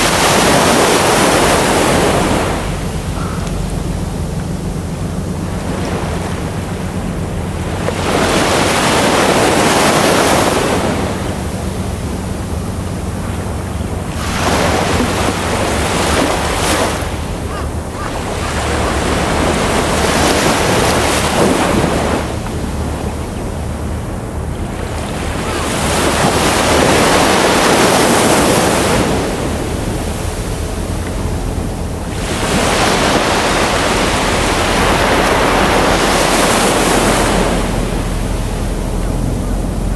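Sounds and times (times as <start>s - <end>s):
ocean waves breaking on shore: 0.0s - 39.9s
steady low rumble: 0.0s - 39.9s.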